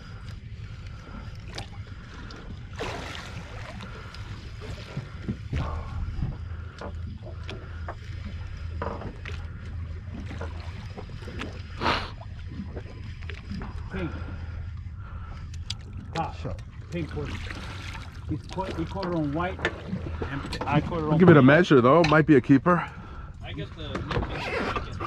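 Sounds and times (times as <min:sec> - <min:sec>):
boat low rumble: 0:00.0 - 0:25.0.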